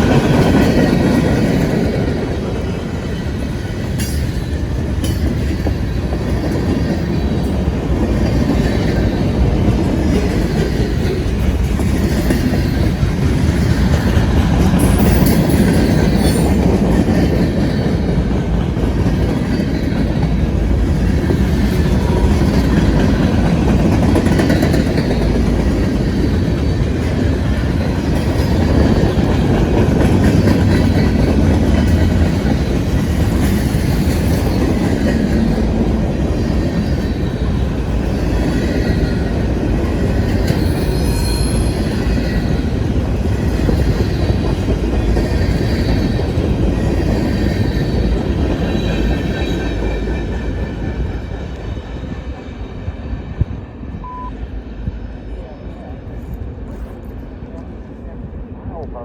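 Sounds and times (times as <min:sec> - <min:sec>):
freight train wheels rumbling: 0:00.0 - 0:59.0
railcars clickety-clack: 0:00.0 - 0:59.0.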